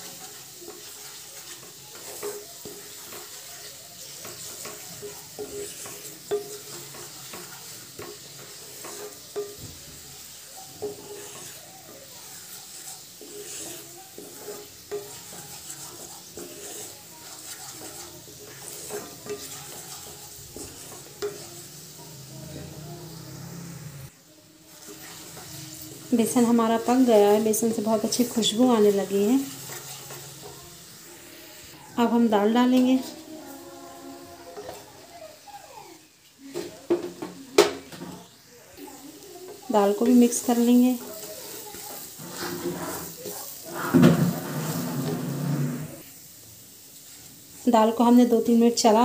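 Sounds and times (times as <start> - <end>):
wooden spatula scraping pan: 0.0 - 24.1, 24.7 - 35.5, 36.5 - 46.1
flour sizzling in oil: 0.0 - 49.0.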